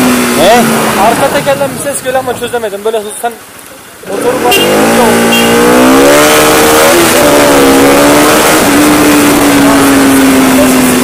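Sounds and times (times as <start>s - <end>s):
motorcycle engine revving: 0.0s - 2.7s, 4.0s - 11.0s.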